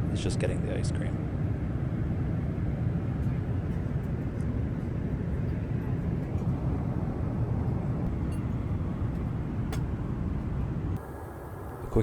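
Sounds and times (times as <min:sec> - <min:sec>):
airplane cabin roar: 0:00.0 - 0:12.0.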